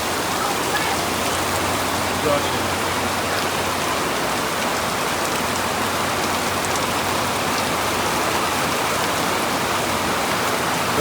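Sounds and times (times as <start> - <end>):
heavy rain pouring: 0.0 - 11.0
water gushing: 0.0 - 11.0.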